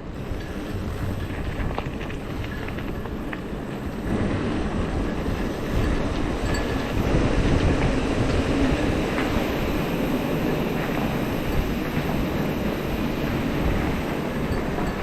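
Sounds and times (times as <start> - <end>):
rumble and rattle of riding: 0.0 - 15.0
wind buffeting microphone: 0.0 - 15.0.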